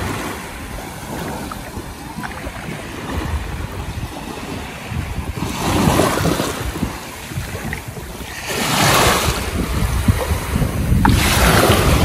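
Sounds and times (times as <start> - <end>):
small waves washing on beach: 0.0 - 12.0
wind buffeting microphone: 0.0 - 12.0.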